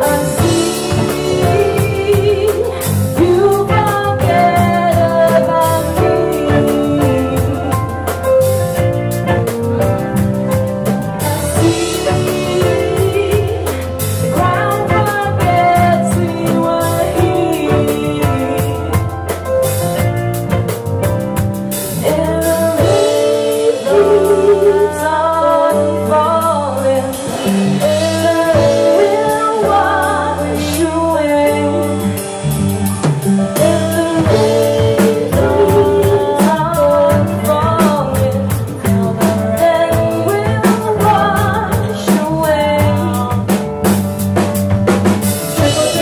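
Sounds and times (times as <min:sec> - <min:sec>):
song with singing voice: 0:00.0 - 0:08.8, 0:10.9 - 0:20.0, 0:21.8 - 0:43.7, 0:45.3 - 0:46.0
guitar bass and drums: 0:00.0 - 0:46.0.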